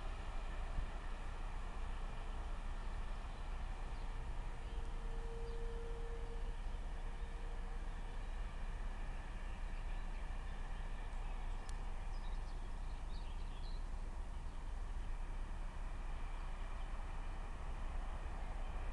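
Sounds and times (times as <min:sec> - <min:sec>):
low rumble and hiss: 0:00.0 - 0:18.9.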